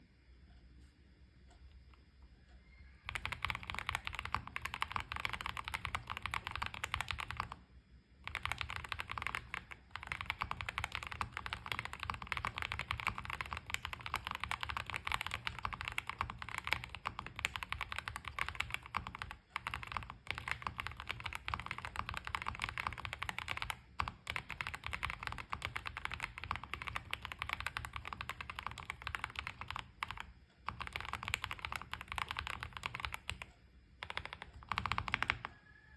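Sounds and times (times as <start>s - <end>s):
typing on mechanical keyboard: 3.0s - 35.9s.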